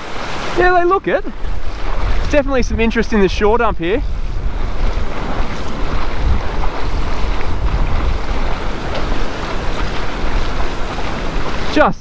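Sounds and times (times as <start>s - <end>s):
surf breaking: 0.0s - 12.0s
wind buffeting microphone: 0.0s - 12.0s.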